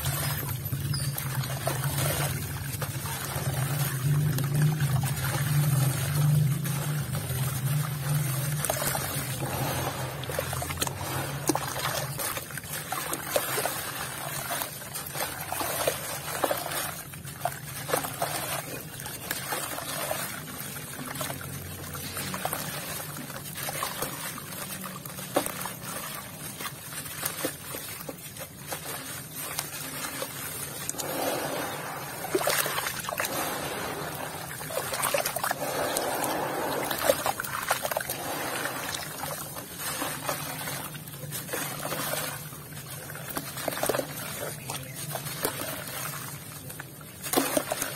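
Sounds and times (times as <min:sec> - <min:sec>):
dirt trickling into water: 0:00.0 - 0:47.9
hands sloshing through water: 0:00.0 - 0:47.9.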